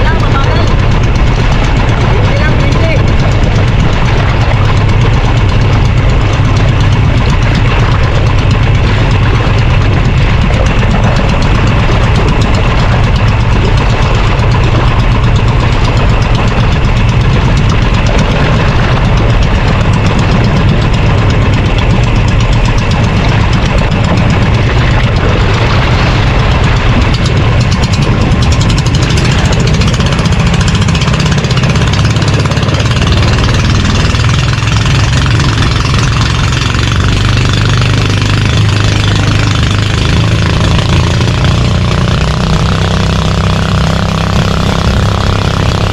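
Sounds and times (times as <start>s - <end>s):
boat engine droning: 0.0s - 45.9s
rushing noise: 0.0s - 45.9s.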